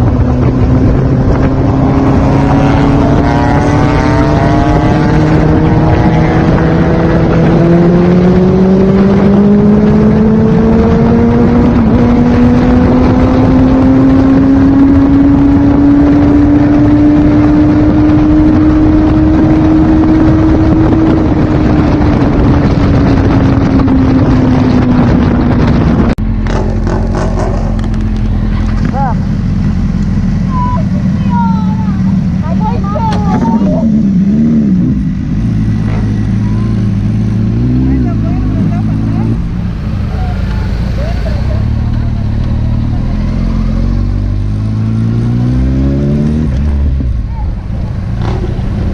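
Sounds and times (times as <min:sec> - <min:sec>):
motorcycle engine revving: 0:00.0 - 0:48.9
wind rush on microphone: 0:00.0 - 0:48.9.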